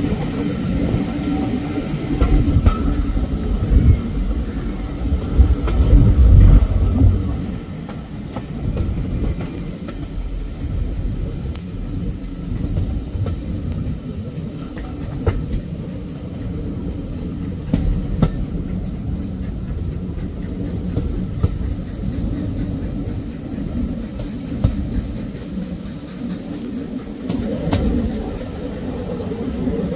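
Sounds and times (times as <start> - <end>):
train wheels rumbling: 0.0 - 29.9.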